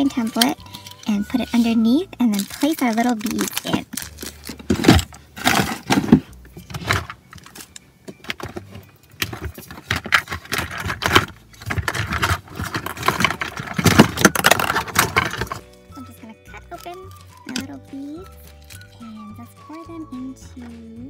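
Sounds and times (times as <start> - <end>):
plastic beads rattling in a bag: 0.0 - 7.7, 9.3 - 19.1.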